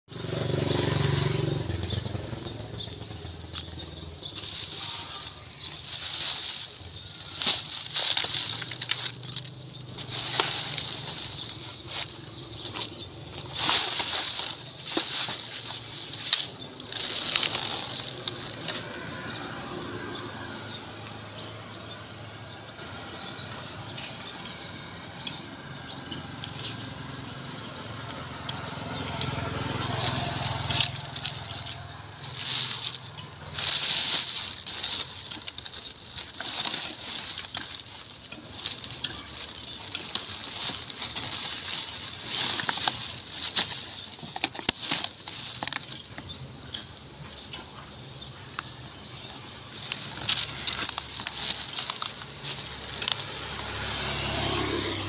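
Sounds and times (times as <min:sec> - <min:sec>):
plastic bags rustling: 0:01.0 - 0:20.0, 0:29.5 - 0:54.8.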